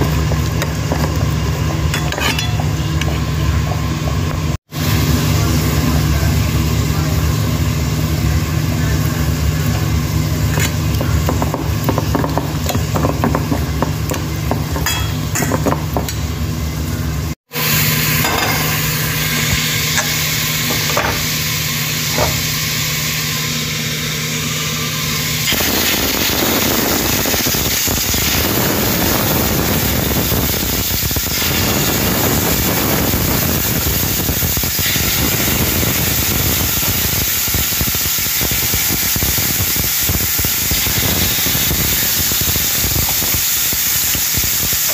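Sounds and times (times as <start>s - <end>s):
water boiling in a pot: 0.0s - 44.9s.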